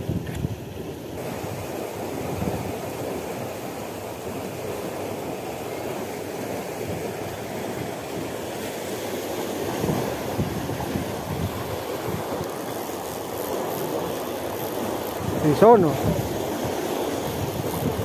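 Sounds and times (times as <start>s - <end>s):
wind buffeting microphone: 0.0s - 18.0s
water rushing through gate: 1.2s - 18.0s.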